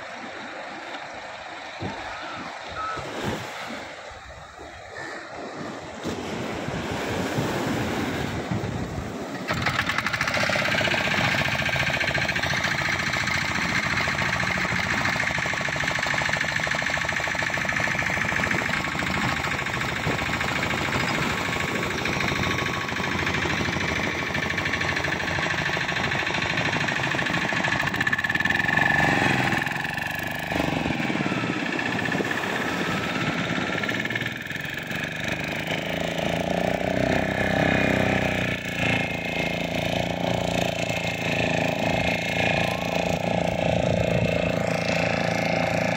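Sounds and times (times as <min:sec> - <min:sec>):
outboard boat engine running: 0:00.0 - 0:45.9.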